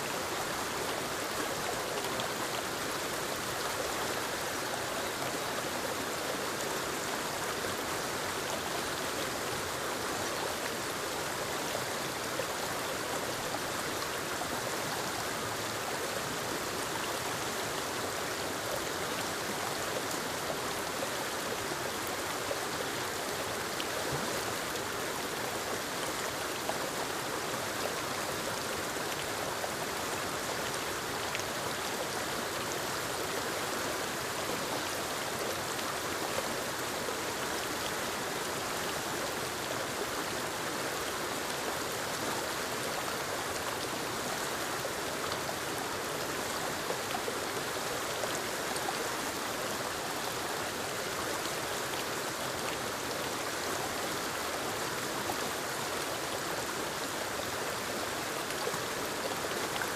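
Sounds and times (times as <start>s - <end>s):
waterfall splashing over rocks: 0.0s - 59.9s.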